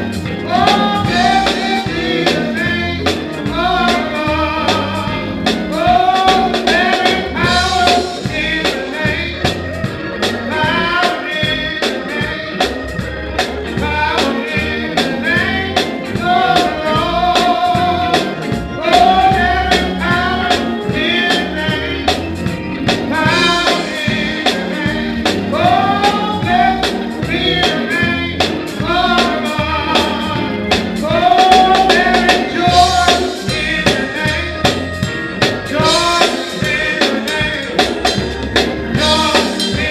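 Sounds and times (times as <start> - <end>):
gospel song with accompaniment: 0.0 - 39.9.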